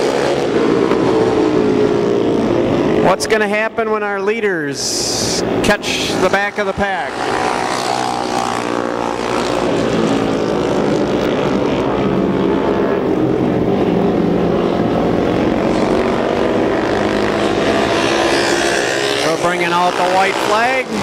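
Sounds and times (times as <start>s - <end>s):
motorcycles racing at full throttle: 0.0s - 21.0s.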